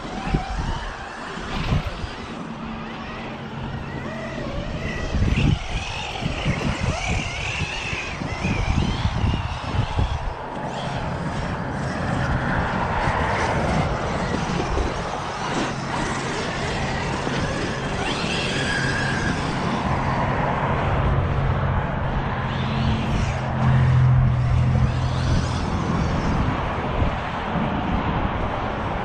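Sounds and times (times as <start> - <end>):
vehicle engine hum: 0.0 - 29.0.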